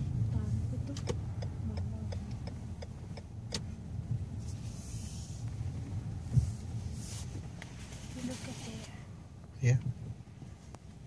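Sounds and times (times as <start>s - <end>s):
car rumble from inside cabin: 0.0s - 11.0s.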